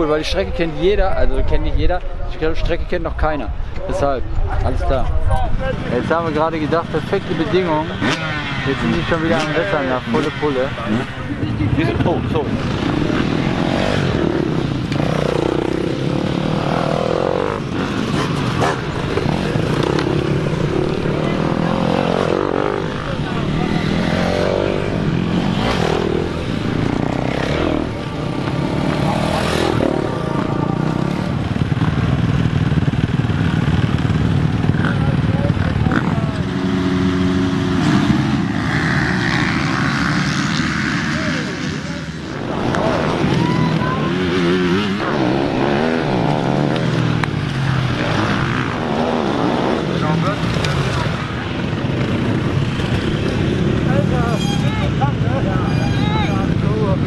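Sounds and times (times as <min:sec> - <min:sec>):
motocross bike engine revving: 0:05.7 - 0:55.8.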